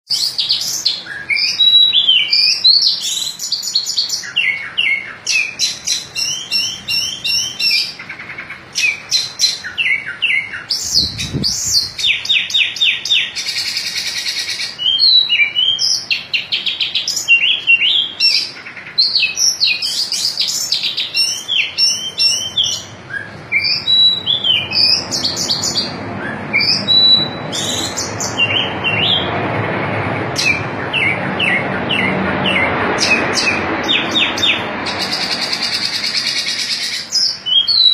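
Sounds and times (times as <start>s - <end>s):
bird singing chirps and trills: 0.1s - 37.9s
steady background noise: 0.1s - 37.9s.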